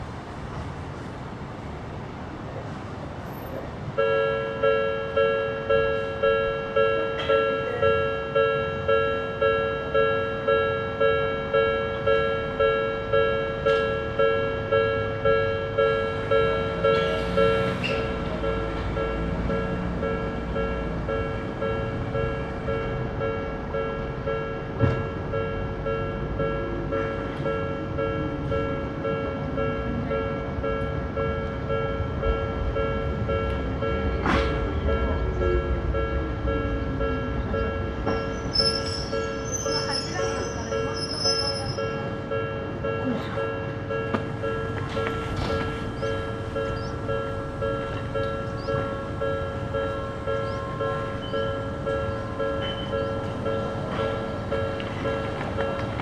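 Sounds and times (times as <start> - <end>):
level-crossing alarm bell dinging: 4.0 - 56.0.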